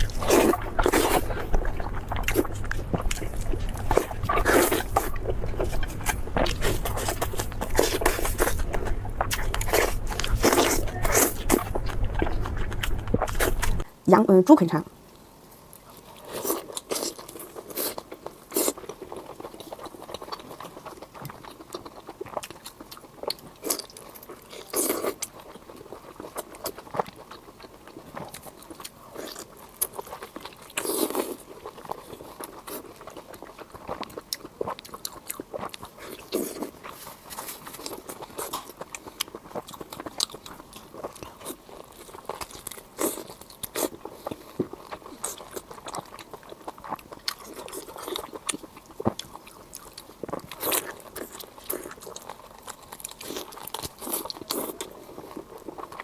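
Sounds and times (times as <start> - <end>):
person chewing crunchy food: 0.0 - 13.9, 15.8 - 56.0.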